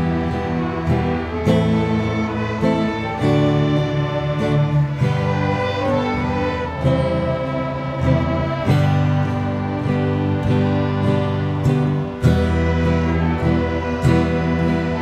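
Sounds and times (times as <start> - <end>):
instrumental music with sustained notes: 0.0 - 15.0.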